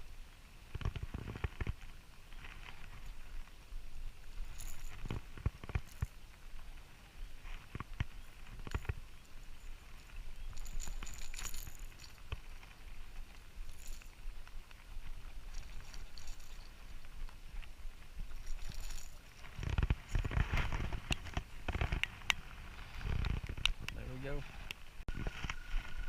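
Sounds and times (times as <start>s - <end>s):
light crackles: 0.0s - 26.0s.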